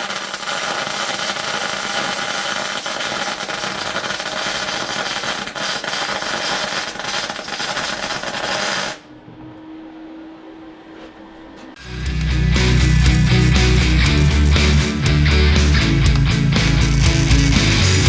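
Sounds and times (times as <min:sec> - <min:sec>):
welder arc crackling: 0:00.0 - 0:09.0, 0:11.8 - 0:18.0.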